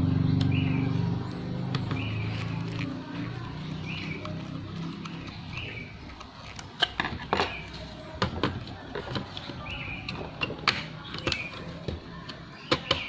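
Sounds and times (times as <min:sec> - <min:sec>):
laptop parts clicking and knocking: 0:01.7 - 0:13.0.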